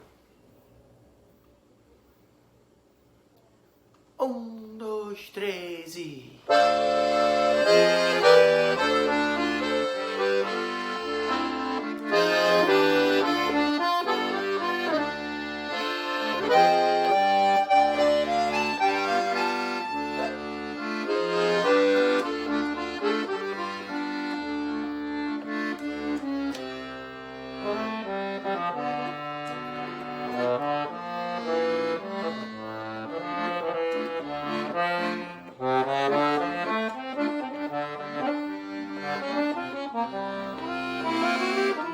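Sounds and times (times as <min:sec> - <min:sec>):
accordion melody: 0:06.4 - 0:41.9.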